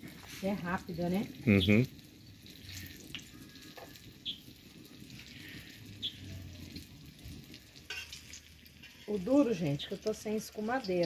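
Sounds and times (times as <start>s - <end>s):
batter frying in hot oil: 0.0s - 11.0s.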